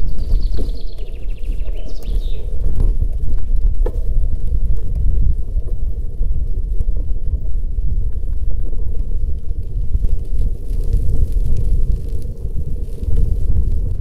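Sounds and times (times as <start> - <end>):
faint bicycle clicks: 0.0 - 14.0
wind buffeting microphone: 0.0 - 14.0.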